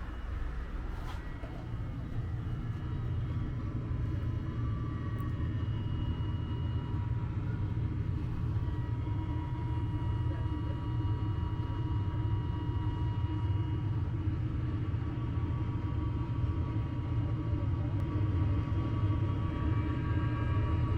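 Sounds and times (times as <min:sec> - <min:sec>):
faint high whine: 0:00.0 - 0:20.9.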